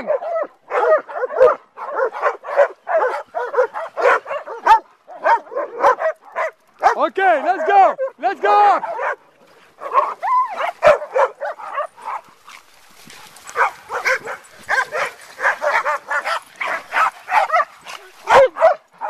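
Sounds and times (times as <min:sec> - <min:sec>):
dogs barking and yelping: 0:00.0 - 0:19.0.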